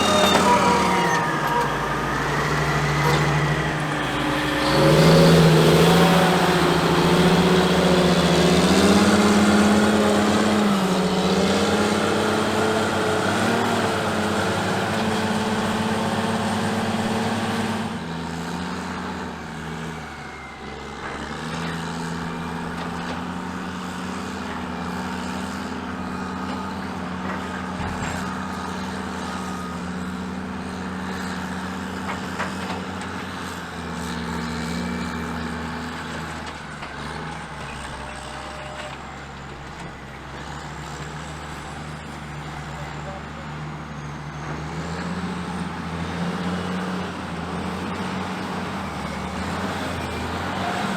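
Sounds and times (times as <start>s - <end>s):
loud diesel engines running: 0.0s - 50.9s.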